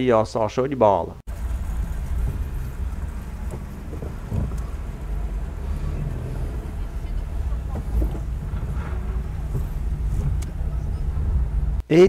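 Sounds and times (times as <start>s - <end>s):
outdoor background rumble: 1.3s - 11.8s.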